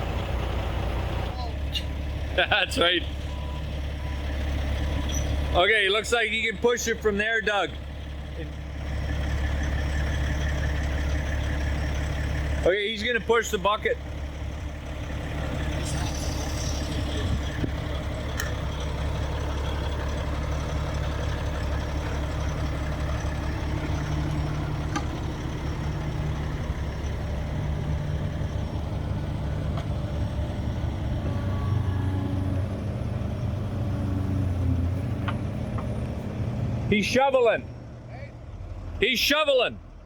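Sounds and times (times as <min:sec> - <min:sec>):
heavy diesel engines droning: 0:00.0 - 0:40.0.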